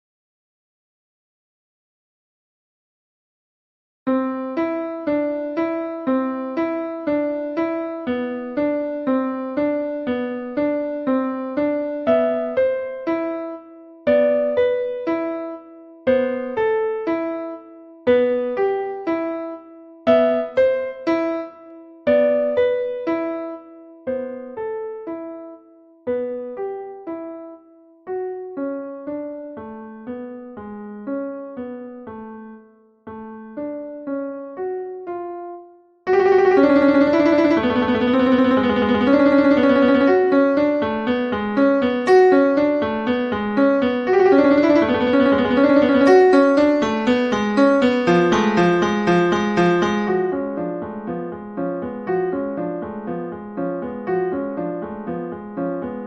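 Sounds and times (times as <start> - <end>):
piano notes and chords: 4.1 - 56.0.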